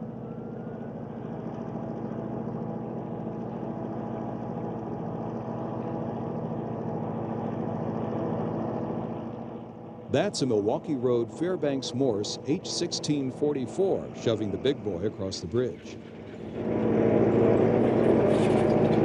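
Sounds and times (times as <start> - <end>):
diesel locomotive engine under load: 0.0 - 19.0.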